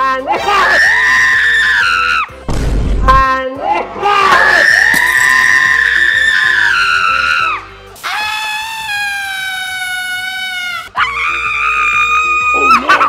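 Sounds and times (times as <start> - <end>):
light background music: 0.0 - 13.0.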